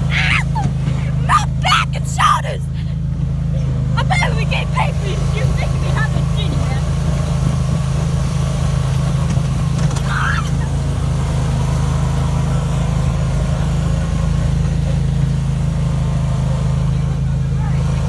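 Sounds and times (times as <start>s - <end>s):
riding lawnmower engine: 0.0s - 18.0s.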